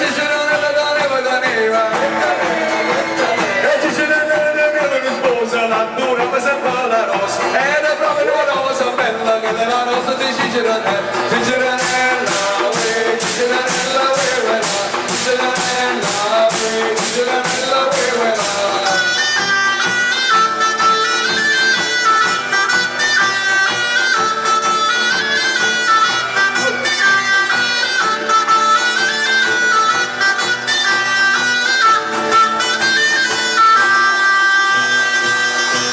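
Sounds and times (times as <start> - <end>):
percussion on barrels and sickles: 0.0 - 35.9.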